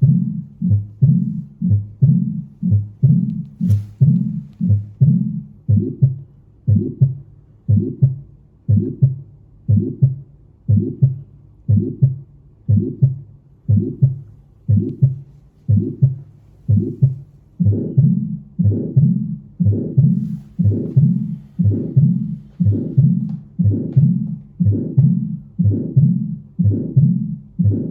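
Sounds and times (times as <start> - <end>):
heartbeat through stethoscope: 0.0 - 27.9.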